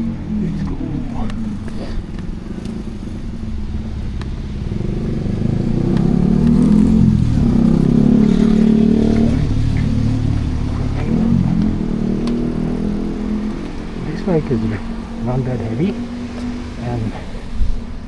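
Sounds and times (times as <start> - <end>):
vehicle engine passing by: 0.0 - 18.0.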